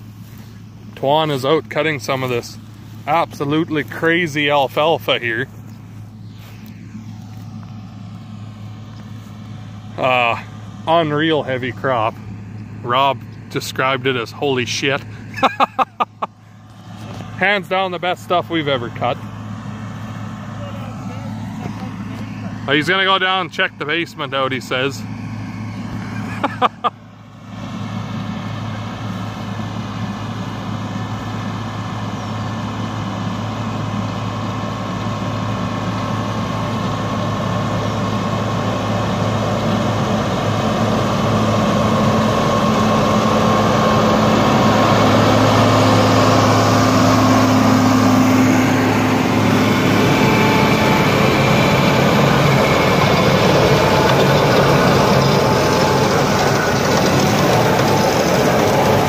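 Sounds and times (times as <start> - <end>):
mower-conditioner running: 0.0 - 59.0
tractor diesel engine hum: 0.0 - 59.0.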